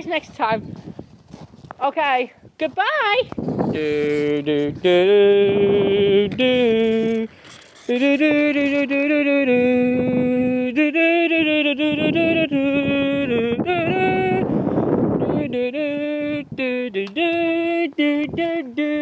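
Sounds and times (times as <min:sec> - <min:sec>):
person singing wordless tune: 0:03.7 - 0:19.0.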